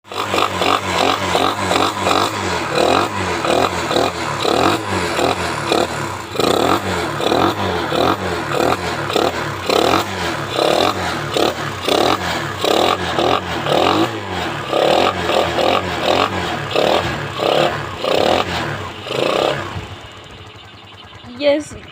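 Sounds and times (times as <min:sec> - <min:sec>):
motorcycle engine running loudly: 0:00.0 - 0:21.9.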